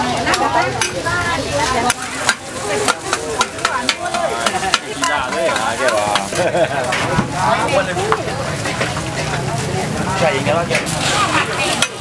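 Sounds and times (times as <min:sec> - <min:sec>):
food sizzling: 0:00.0 - 0:12.0
voices chattering: 0:00.0 - 0:12.0
metal spatula scraping griddle: 0:00.3 - 0:07.8, 0:08.4 - 0:12.0.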